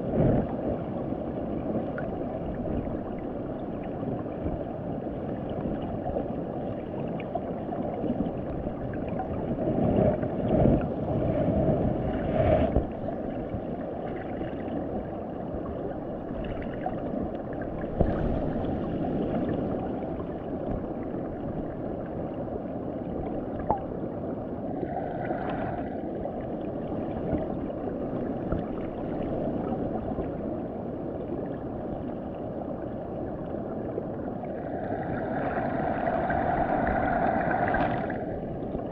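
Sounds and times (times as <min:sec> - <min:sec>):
muffled underwater rush: 0:00.0 - 0:38.9.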